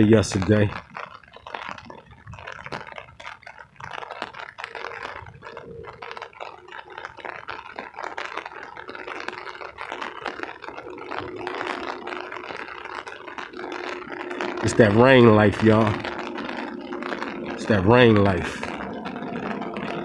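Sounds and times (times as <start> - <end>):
rain drops ticking: 0.0 - 20.0.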